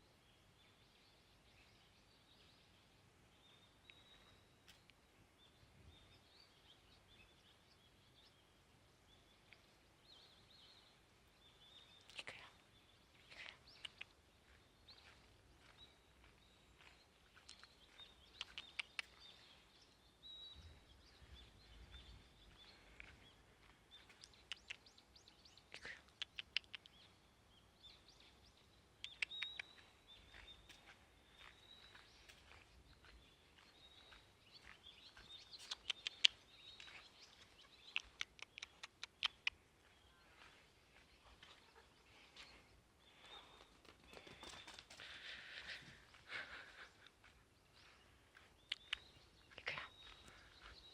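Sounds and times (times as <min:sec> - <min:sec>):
faint bird chirps: 0:00.0 - 0:50.9.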